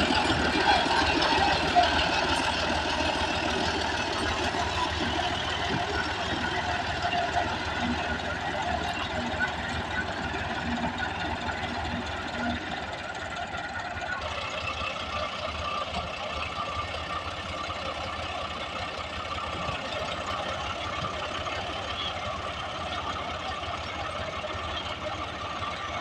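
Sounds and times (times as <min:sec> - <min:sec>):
tractor engine knocking: 0:00.0 - 0:26.0.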